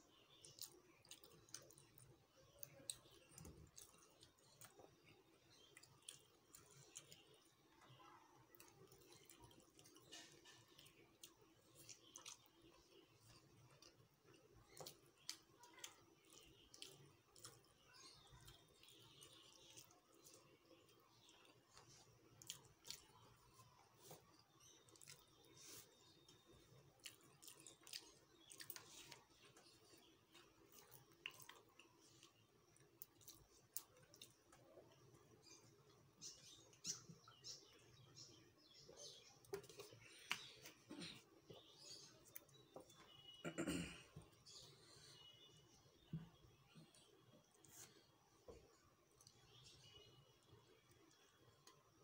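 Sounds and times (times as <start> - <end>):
quiet chewing: 0.0 - 52.0.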